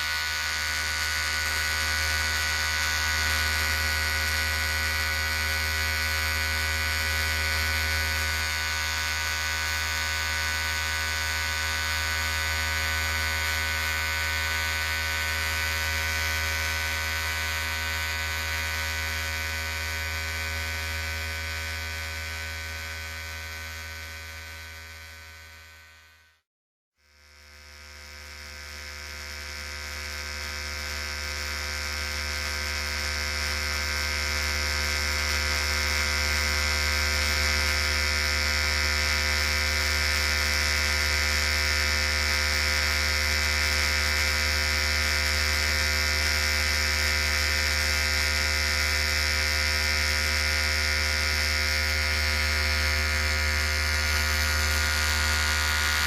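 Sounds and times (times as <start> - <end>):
electric hair clipper buzzing: 0.0 - 26.4, 27.0 - 56.0.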